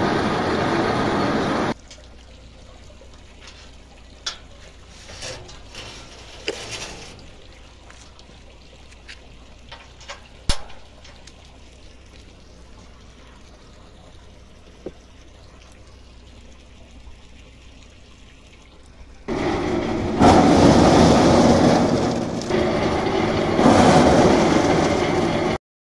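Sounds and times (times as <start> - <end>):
water rushing with tumbling carrots: 0.0 - 25.6.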